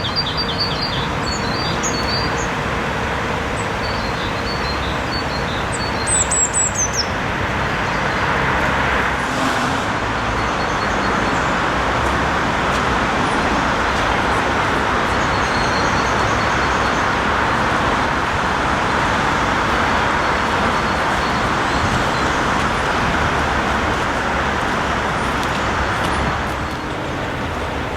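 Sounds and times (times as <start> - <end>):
city traffic: 0.0 - 27.9
construction site noise: 0.0 - 27.9.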